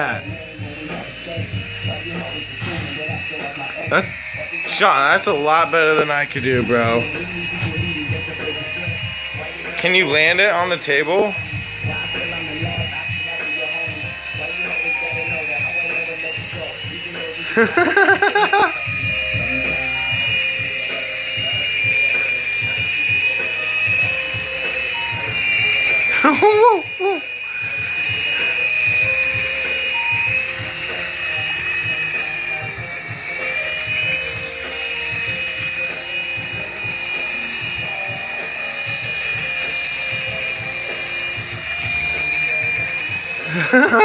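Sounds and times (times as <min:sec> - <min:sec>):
toy helicopter motors whining: 0:00.0 - 0:44.0.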